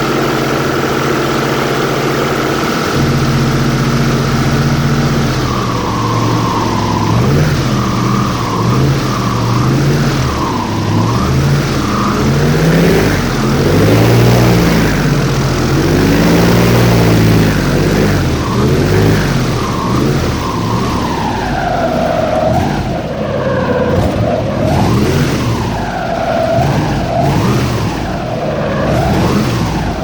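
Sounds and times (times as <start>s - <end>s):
airboat engine revving: 0.0s - 30.0s.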